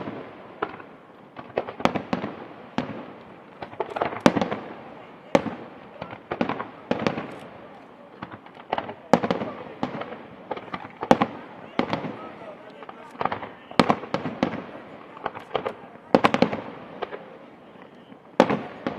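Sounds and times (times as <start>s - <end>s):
firework crackle: 0.0s - 18.9s.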